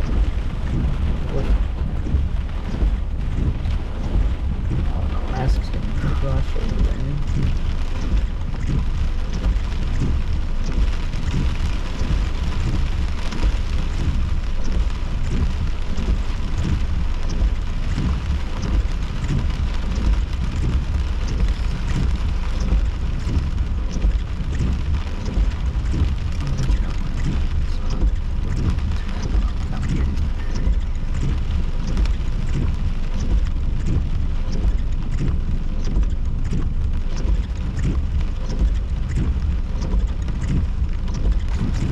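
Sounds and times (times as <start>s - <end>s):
heavy rain on car roof: 0.0s - 41.9s
low rumble: 0.0s - 41.9s.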